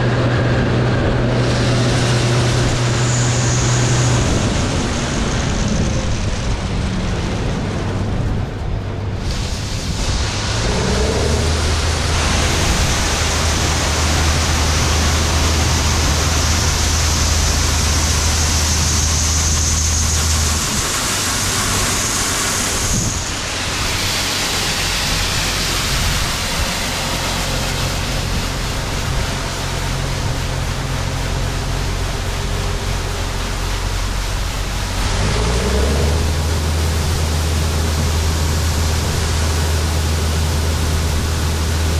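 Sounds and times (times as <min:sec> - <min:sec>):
combine engine drone: 0:00.0 - 0:41.9
loud rushing noise: 0:00.0 - 0:41.9.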